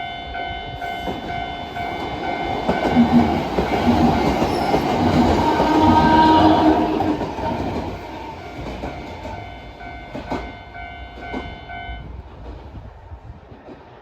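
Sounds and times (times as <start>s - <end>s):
crossing warning bell ringing: 0.0s - 12.2s
train wheel and rail noise: 0.0s - 14.0s.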